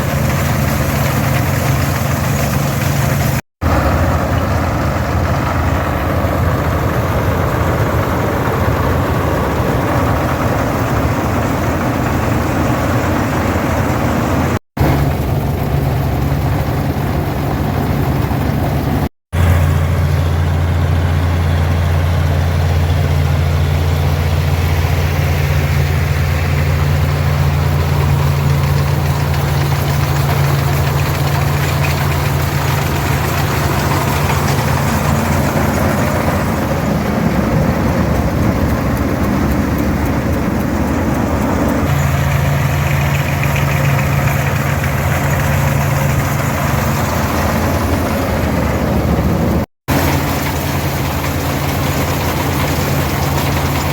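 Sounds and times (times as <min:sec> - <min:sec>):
combine harvester clatter: 0:00.0 - 0:53.9
tractor diesel engine running: 0:00.0 - 0:53.9.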